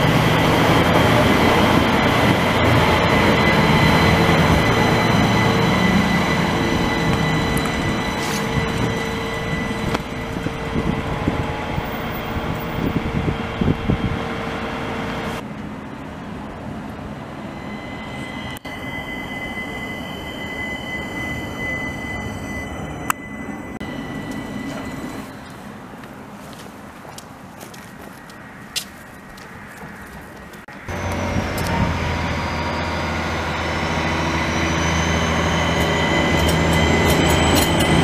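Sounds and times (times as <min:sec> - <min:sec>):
tram high whine: 0:00.0 - 0:38.0
tram rumbling past: 0:00.0 - 0:38.0.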